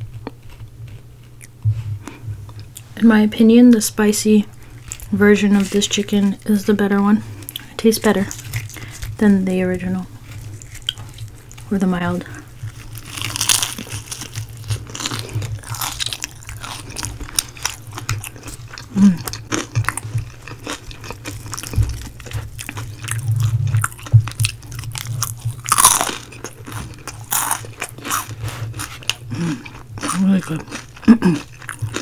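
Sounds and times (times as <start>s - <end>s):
crunchy chewing of fried chicken: 0.0s - 2.9s, 4.5s - 32.0s
low steady hum: 0.0s - 32.0s.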